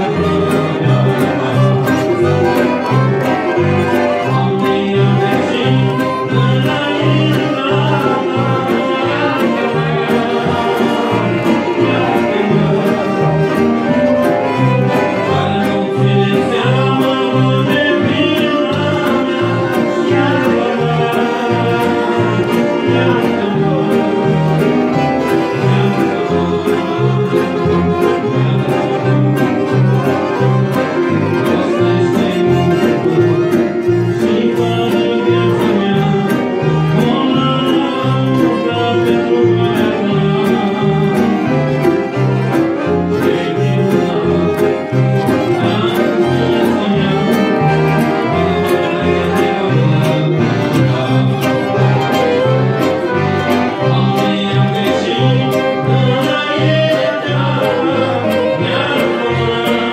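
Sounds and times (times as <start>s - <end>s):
instrumental music with bouncing bass: 0.0s - 59.9s.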